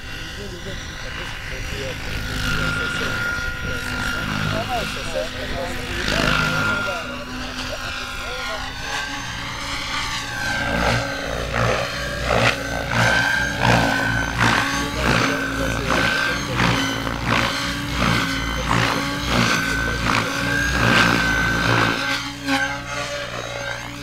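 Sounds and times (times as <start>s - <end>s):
high drivetrain whine: 0.0s - 24.0s
rotor blades swooshing: 0.0s - 24.0s.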